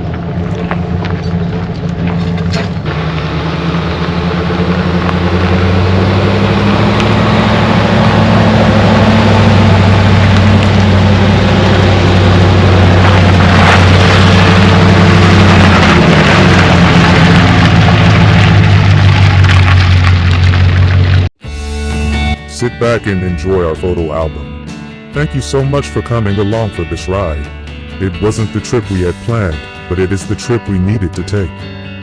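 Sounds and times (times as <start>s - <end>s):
road noise rushing: 0.0s - 32.0s
vehicle engine running: 0.0s - 32.0s.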